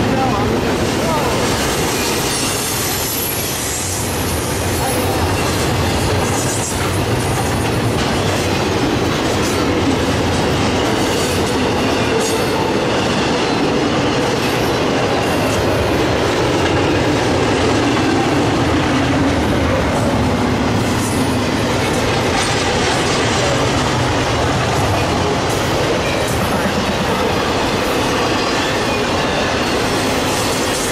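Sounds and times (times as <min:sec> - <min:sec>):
train wheels rumbling on rail: 0:00.0 - 0:30.9
wheels clacking over rail joints: 0:00.0 - 0:30.9.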